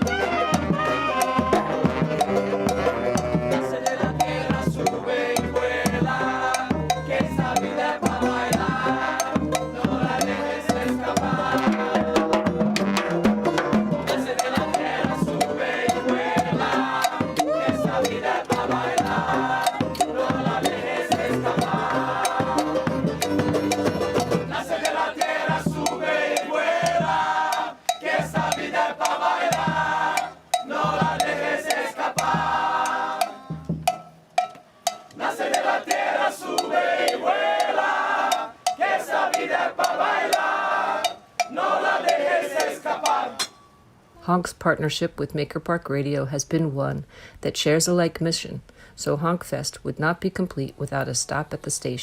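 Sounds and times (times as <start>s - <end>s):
drums and percussion: 0.0s - 43.7s
group singing and chanting: 0.0s - 43.8s.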